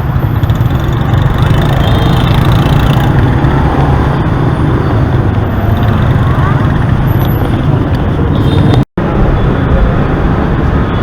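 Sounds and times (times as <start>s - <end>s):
vehicle engines: 0.0s - 11.0s
wind rumble: 0.0s - 11.0s.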